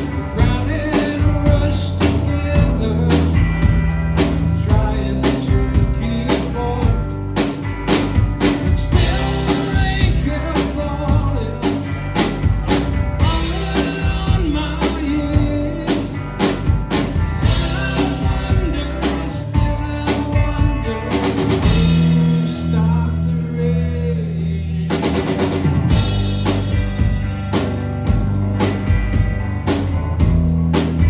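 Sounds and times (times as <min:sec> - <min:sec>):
rock band playing: 0:00.0 - 0:31.0.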